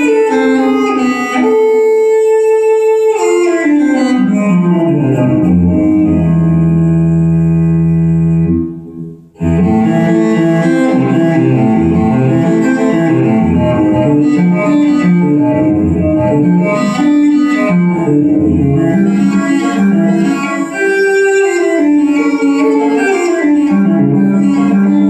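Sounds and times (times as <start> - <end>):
string music over loudspeakers: 0.0 - 25.0.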